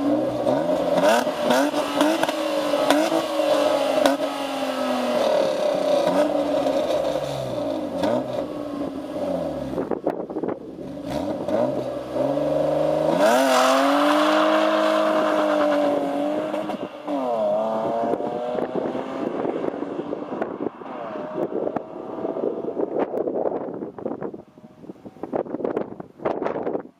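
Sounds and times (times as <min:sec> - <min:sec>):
car engine revving: 0:00.0 - 0:25.8.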